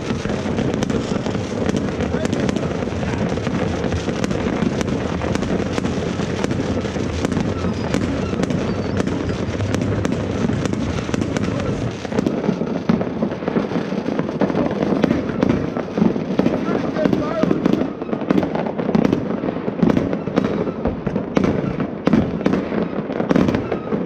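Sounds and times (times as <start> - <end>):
distant fireworks rumble: 0.0 - 24.0
firecracker cracks and pops: 0.0 - 24.0.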